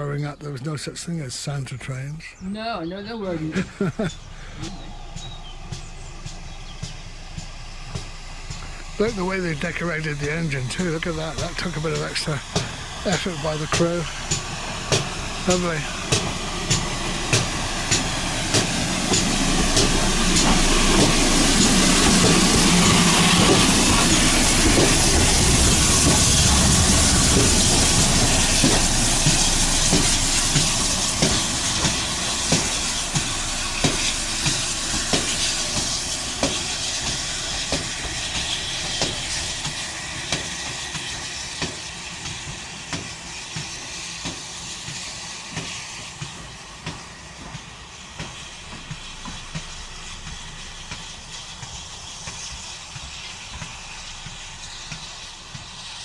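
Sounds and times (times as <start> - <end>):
locomotive low rumble: 0.0 - 56.0
steam hissing: 0.0 - 56.0
wheels clicking on rails: 3.5 - 56.0.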